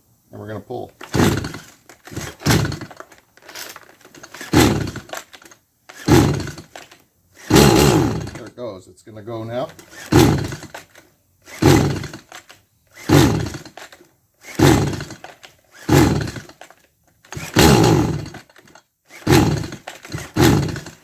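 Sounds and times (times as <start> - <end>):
chainsaw starter cord pulled: 1.0 - 8.5, 9.5 - 21.0
engine turning over: 1.0 - 8.5, 9.7 - 21.0.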